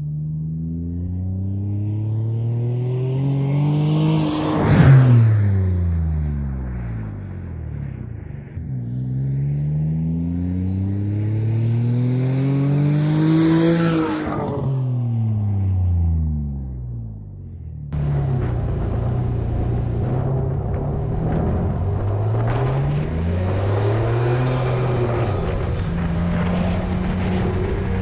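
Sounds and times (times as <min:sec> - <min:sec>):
car engine accelerating past: 0:00.6 - 0:16.8, 0:18.0 - 0:28.0.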